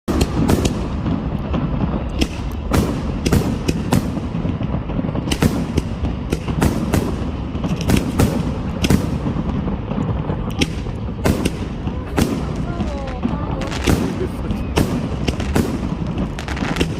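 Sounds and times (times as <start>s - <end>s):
fireworks bangs: 0.0s - 16.9s
steady low rumble: 0.1s - 16.9s.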